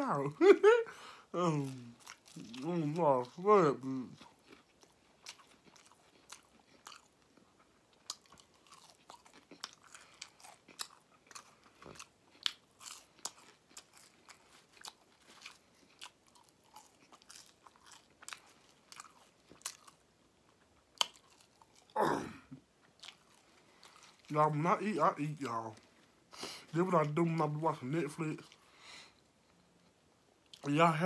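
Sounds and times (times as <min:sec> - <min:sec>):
chewing crispy food: 0:00.2 - 0:31.0.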